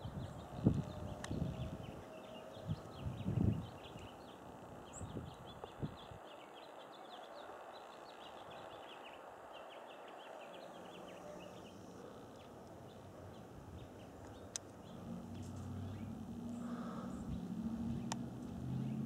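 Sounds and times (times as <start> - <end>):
outdoor background hum: 0.0 - 19.0
small birds twittering: 0.0 - 19.0.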